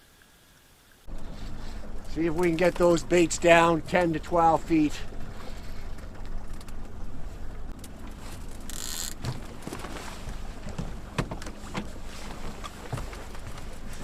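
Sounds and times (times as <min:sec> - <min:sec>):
boat motor humming: 0:01.1 - 0:14.0.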